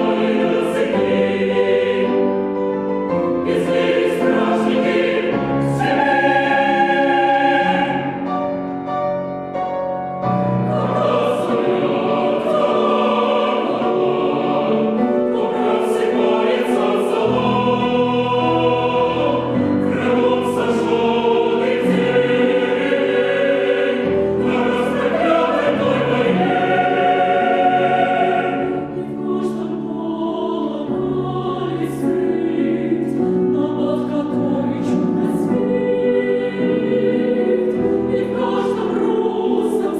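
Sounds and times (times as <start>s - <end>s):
chamber choir singing: 0.0s - 9.5s, 10.2s - 39.9s.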